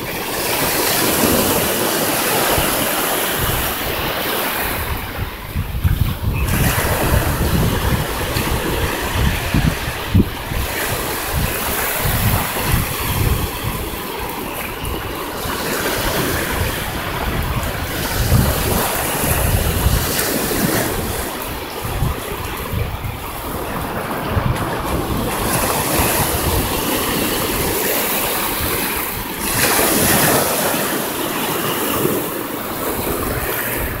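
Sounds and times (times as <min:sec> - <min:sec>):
small waves washing on sand: 0:00.0 - 0:34.0
wind buffeting microphone: 0:00.0 - 0:34.0.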